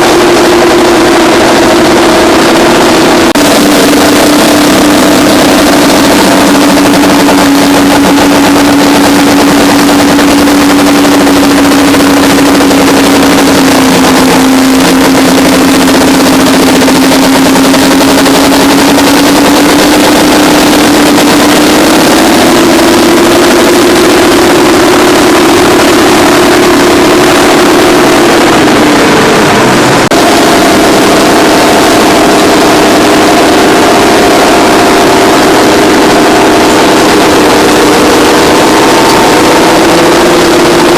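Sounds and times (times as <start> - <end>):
bulldozer diesel engines droning: 0.0 - 40.9.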